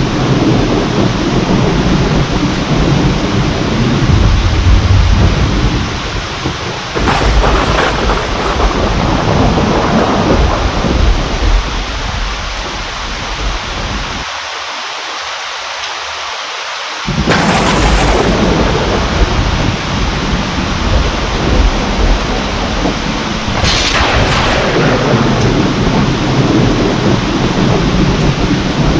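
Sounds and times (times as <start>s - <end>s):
rolling thunder: 0.0s - 14.3s, 17.1s - 28.9s
heavy rain: 0.0s - 28.9s.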